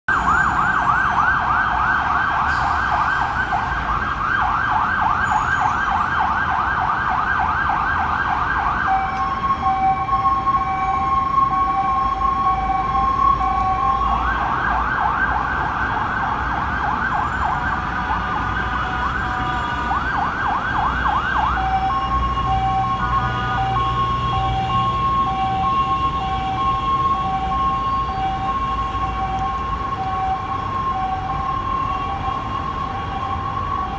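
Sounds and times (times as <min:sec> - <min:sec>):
ambulance siren: 0:00.1 - 0:33.9
idling traffic rumble: 0:00.1 - 0:33.9.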